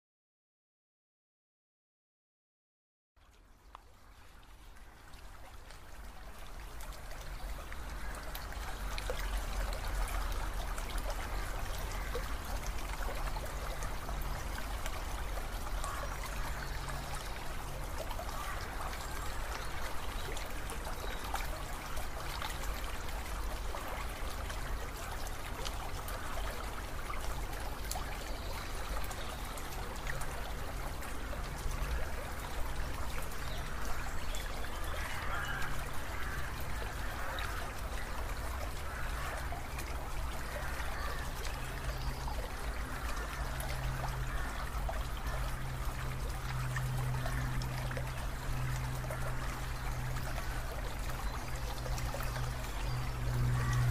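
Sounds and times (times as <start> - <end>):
river water over rocks: 3.2 - 53.9.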